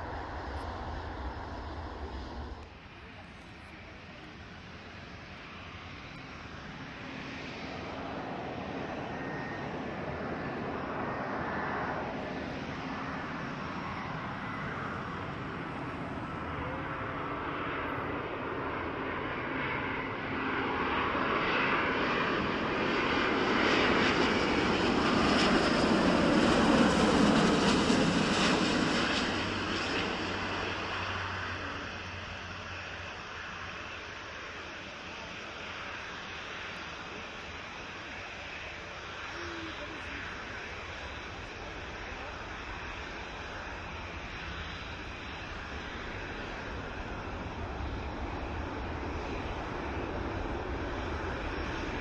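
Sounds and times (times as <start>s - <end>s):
airliner engines passing: 0.0s - 52.0s.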